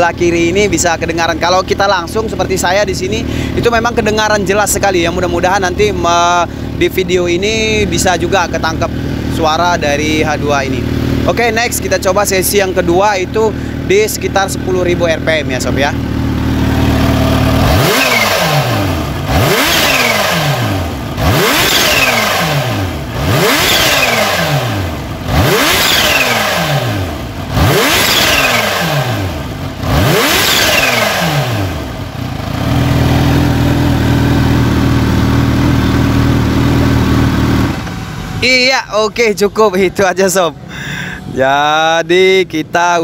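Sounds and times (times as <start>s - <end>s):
motorcycle engine revving: 0.0s - 41.7s
supercharger whine: 0.0s - 43.0s.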